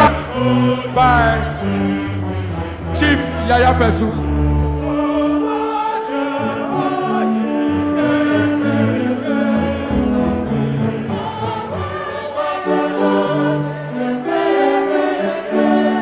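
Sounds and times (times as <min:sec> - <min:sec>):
choir singing long held notes: 0:00.0 - 0:16.0.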